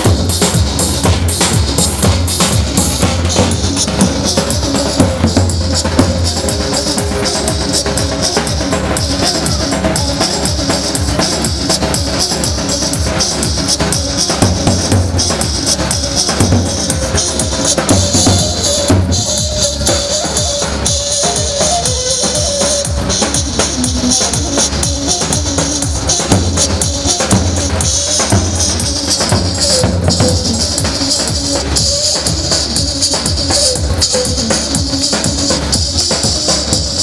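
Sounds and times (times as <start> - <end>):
large drum beating: 0.0 - 37.0
sustained melody line: 0.0 - 37.0.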